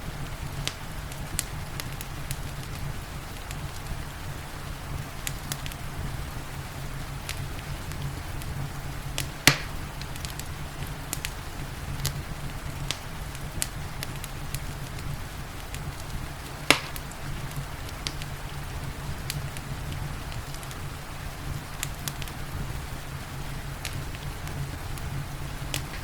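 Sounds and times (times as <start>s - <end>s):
rain hissing: 0.0s - 26.0s
wood fire crackling: 0.0s - 26.0s
loud pops of fire: 0.1s - 4.2s, 4.9s - 26.0s.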